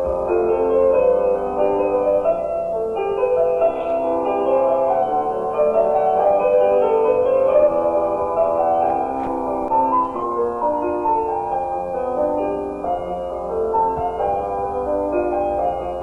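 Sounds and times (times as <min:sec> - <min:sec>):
film score piano melody: 0:00.0 - 0:16.0.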